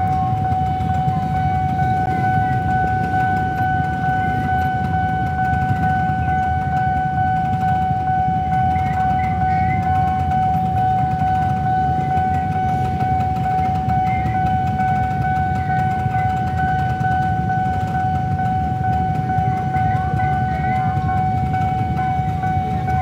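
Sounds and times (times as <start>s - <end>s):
level crossing alarm tone: 0.0s - 23.0s
motorcycles idling: 0.0s - 23.0s.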